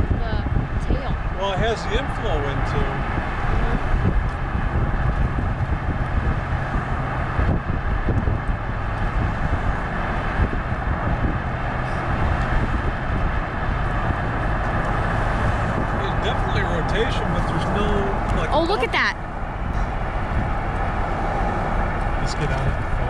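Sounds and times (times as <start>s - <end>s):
road and wind noise: 0.0s - 23.0s
vehicle engine and tyre noise: 0.0s - 23.0s.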